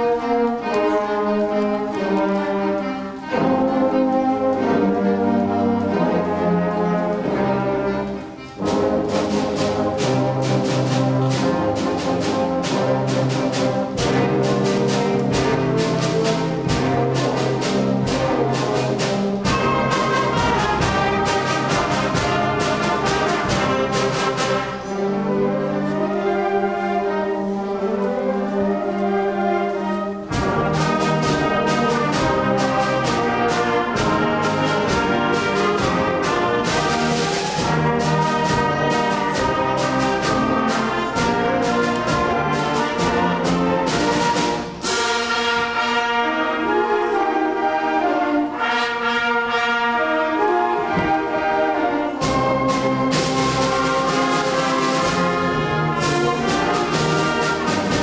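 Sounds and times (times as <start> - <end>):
concert band playing: 0.0 - 58.0.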